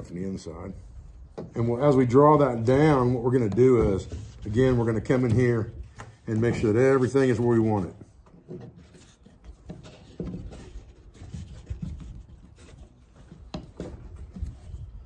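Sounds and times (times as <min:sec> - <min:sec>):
cord and wood rubbing: 0:00.8 - 0:15.0.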